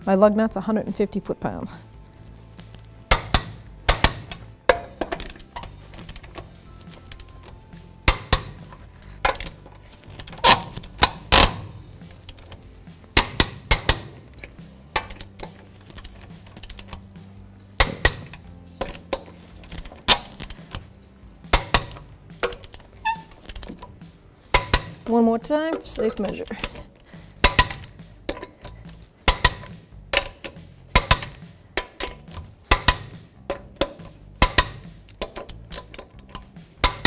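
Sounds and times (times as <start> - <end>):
torque wrench clicking: 3.1 - 17.2, 17.8 - 20.9, 21.5 - 37.0.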